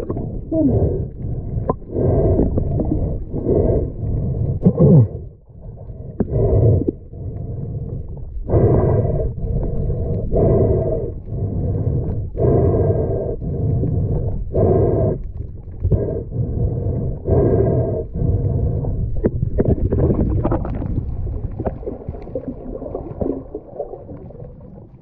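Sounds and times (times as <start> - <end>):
diver breathing underwater: 0.0 - 25.0
low rumble of water: 0.0 - 25.0.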